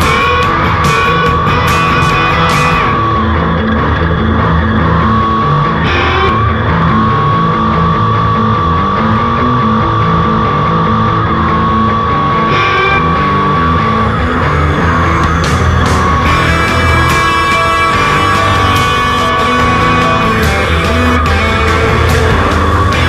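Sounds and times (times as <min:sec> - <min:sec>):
loud guitar rock music: 0:00.0 - 0:23.0.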